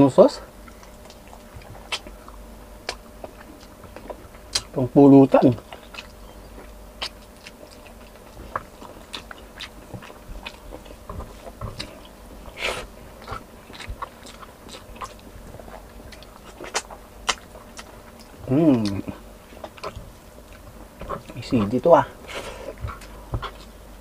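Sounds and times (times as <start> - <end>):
chewing and biting food: 0.6 - 24.0.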